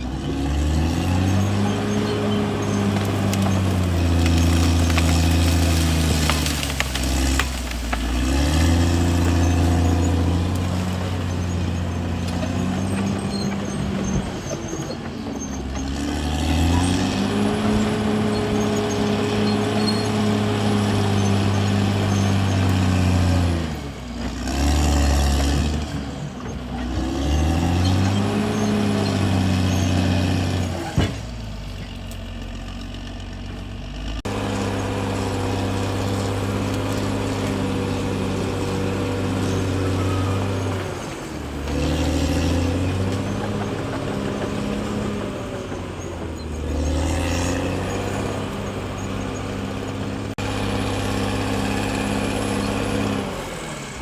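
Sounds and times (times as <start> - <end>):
bulldozer diesel engine labouring: 0.0 - 54.0.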